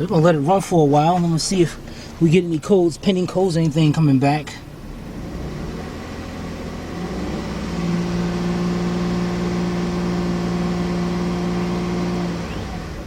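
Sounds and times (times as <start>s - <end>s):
steady hum: 0.0s - 12.2s
car engine idling: 0.0s - 13.0s.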